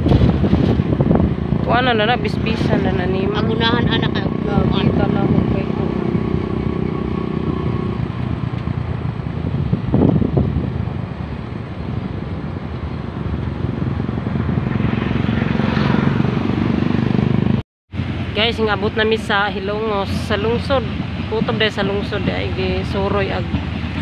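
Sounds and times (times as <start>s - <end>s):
road and wind noise: 0.0s - 24.0s
vehicle engines running: 0.0s - 24.0s.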